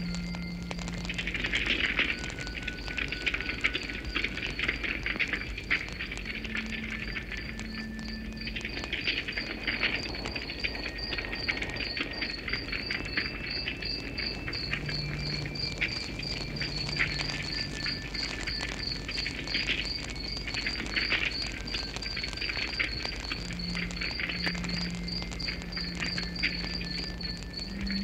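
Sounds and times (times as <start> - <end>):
cricket chirping: 0.0 - 28.0
wood fire crackling: 0.0 - 28.0.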